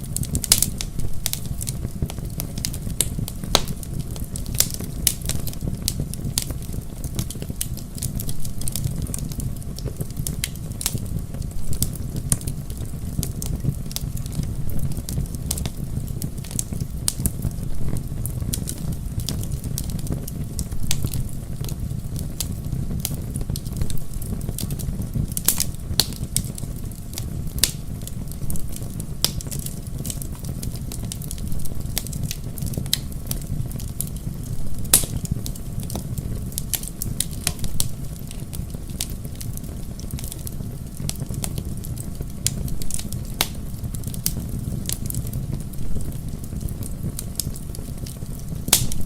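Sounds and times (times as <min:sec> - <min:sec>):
bonfire crackling and popping: 0:00.0 - 0:49.0.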